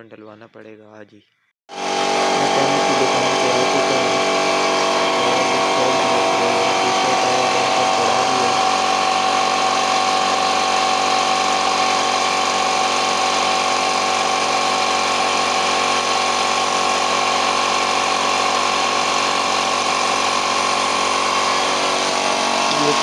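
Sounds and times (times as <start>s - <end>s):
workshop machine running with whine: 1.7s - 23.0s.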